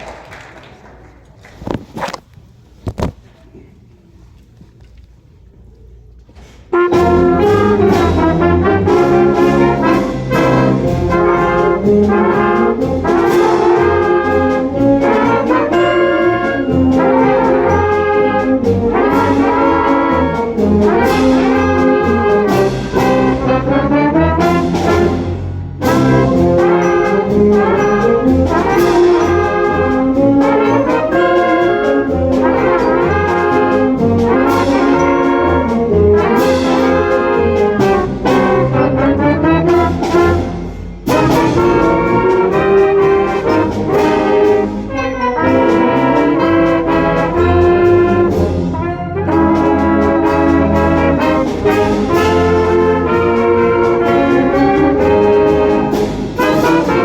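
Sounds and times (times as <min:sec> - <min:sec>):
trumpets and trombones melody: 0:06.5 - 0:57.0.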